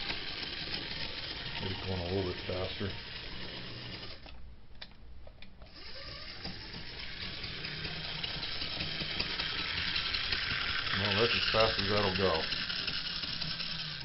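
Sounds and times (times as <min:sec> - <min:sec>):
model train motor whirring: 0:00.0 - 0:04.4, 0:05.7 - 0:14.0.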